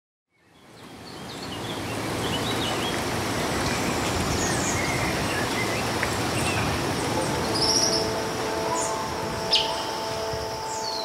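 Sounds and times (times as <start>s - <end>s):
steady rush of noise: 0.6s - 11.0s.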